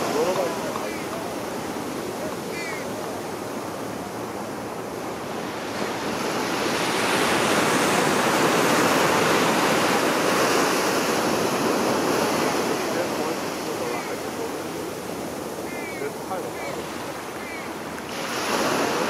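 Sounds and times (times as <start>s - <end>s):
sea surf washing against rocks: 0.0s - 19.0s.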